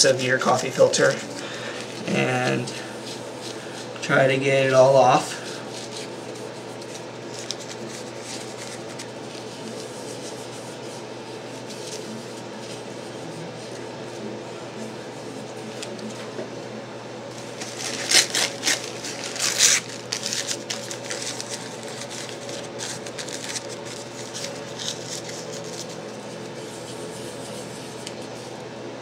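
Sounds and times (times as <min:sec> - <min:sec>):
paper rubbing on metal lid: 0:00.0 - 0:14.2, 0:17.4 - 0:28.5
paper filter crinkling: 0:00.2 - 0:04.0, 0:05.3 - 0:14.0, 0:17.3 - 0:28.4.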